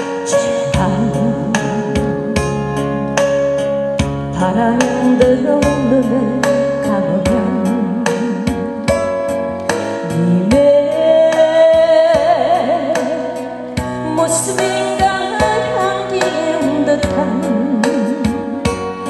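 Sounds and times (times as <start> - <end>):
keyboard chords: 0.0 - 19.0
lead melody with vibrato: 0.0 - 19.0.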